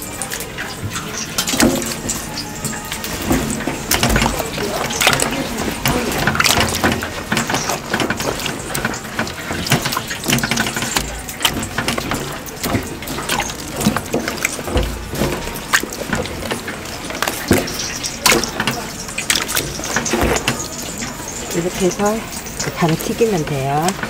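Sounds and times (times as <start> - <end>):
kitchen knocks and clatters: 0.0 - 24.0
running tap water: 0.0 - 24.0.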